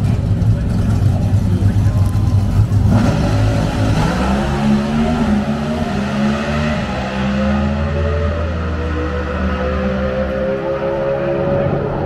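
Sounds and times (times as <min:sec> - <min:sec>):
drag racing engine revving: 0:00.0 - 0:12.0.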